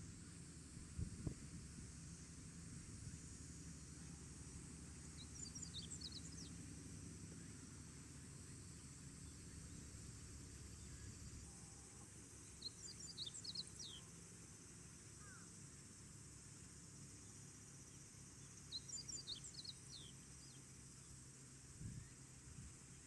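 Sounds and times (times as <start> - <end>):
faint low outdoor background noise: 0.0 - 23.0.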